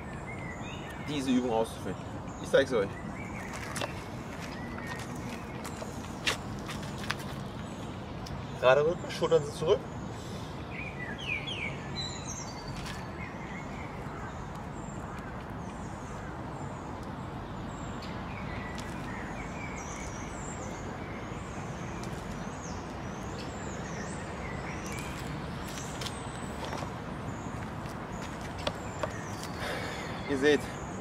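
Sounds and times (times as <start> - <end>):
outdoor background hiss and hum: 0.0 - 31.0
small birds chirping: 0.0 - 31.0.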